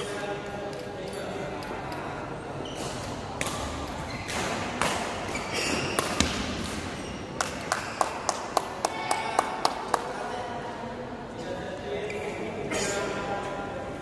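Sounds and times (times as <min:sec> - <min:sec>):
sports hall noise: 0:00.0 - 0:14.0.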